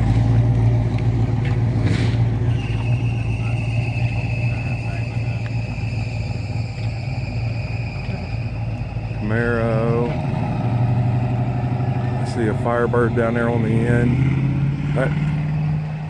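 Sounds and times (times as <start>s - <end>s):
vehicle engine running: 0.0s - 16.0s
high-pitched whine: 2.3s - 16.0s.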